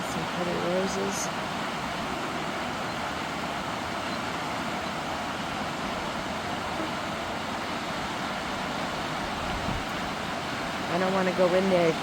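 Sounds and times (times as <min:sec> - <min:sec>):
steady outdoor background noise: 0:00.0 - 0:12.0.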